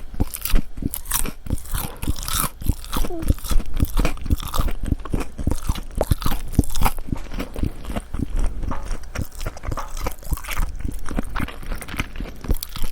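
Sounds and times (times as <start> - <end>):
chewing crispy fried food: 0.0 - 12.9.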